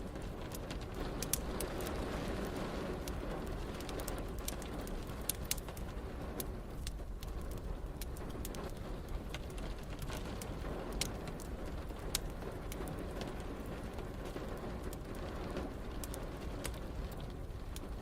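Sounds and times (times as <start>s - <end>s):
rain hissing: 0.0s - 18.0s
wood fire crackling: 0.0s - 18.0s.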